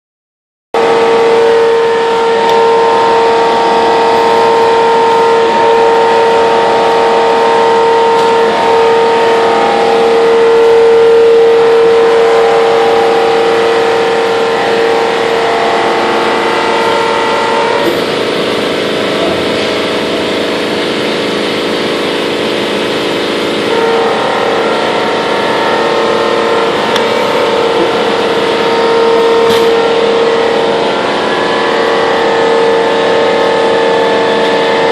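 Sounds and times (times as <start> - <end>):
machine whine: 0.8 - 34.9
punch press running: 0.8 - 34.9.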